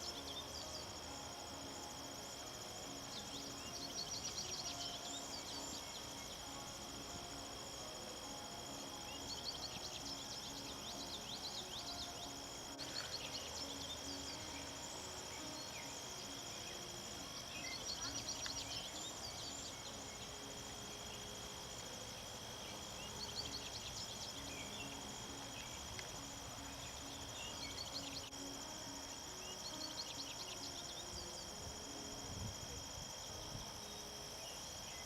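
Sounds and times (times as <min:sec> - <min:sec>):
insect trill: 0:00.0 - 0:35.0
soft music: 0:00.0 - 0:35.0.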